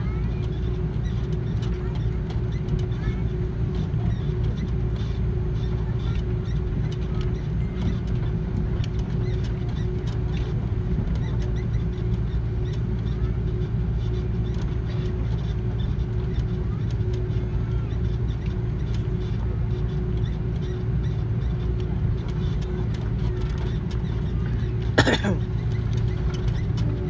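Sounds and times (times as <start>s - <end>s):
aircraft cabin rumble: 0.0s - 27.0s
aircraft hum: 0.0s - 27.0s.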